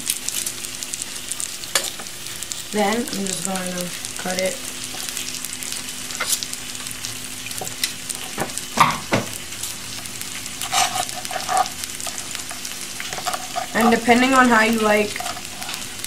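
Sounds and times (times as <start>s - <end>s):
food frying sizzle: 0.0s - 16.0s.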